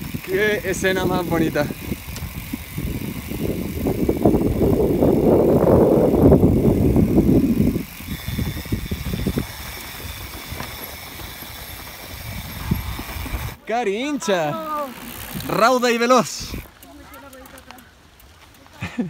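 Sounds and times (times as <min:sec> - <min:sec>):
bike tyres crunching over dirt: 0:00.0 - 0:19.0.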